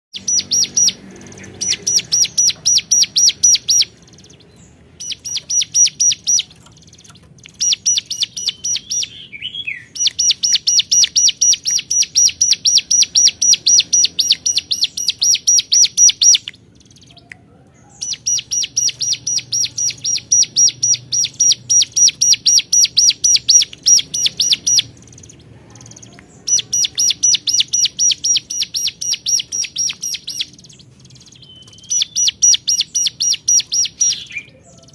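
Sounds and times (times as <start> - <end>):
bird calling rapid high notes: 0.2 - 4.3, 5.0 - 6.6, 7.6 - 16.5, 17.9 - 25.4, 26.0 - 34.9.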